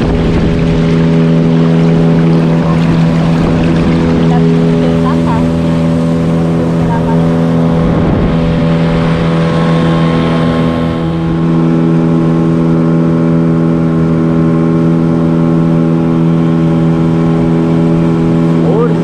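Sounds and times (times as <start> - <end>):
boat motor running: 0.0 - 19.0
water rushing along hull: 0.0 - 19.0.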